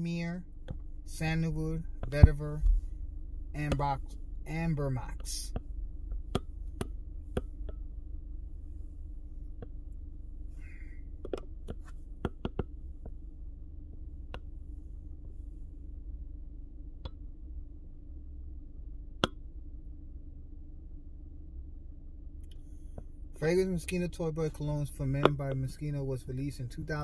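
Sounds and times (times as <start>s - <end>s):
car interior rumble: 0.0s - 27.0s.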